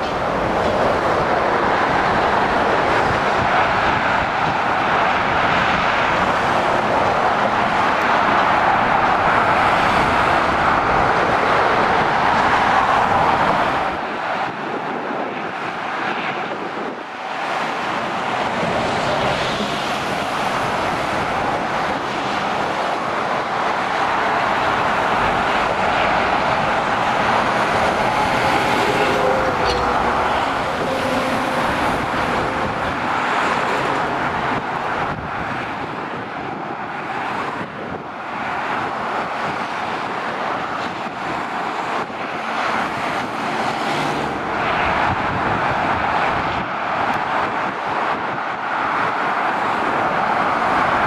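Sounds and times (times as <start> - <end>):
motorway traffic roar: 0.0 - 51.0.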